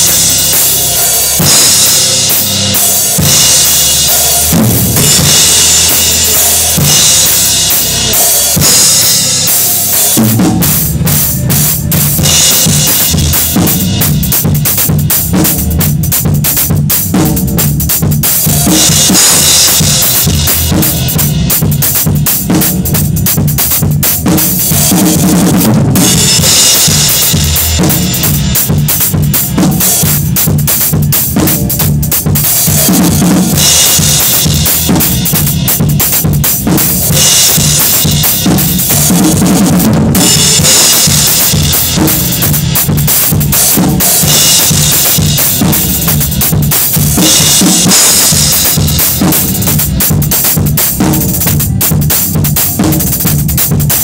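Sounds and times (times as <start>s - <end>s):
bass drum: 0.0s - 54.0s
cymbals: 0.0s - 54.0s
snare drum: 0.0s - 54.0s.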